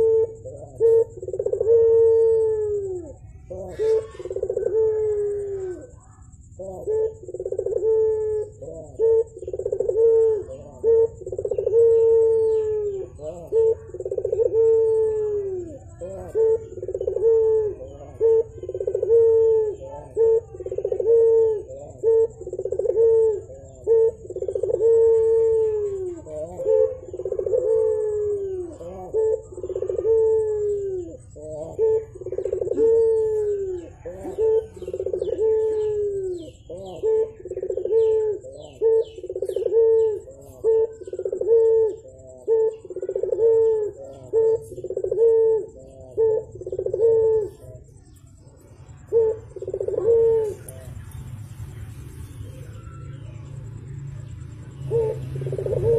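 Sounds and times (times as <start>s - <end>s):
dove cooing: 0.0s - 55.9s
faint high bird chirps: 0.0s - 55.9s.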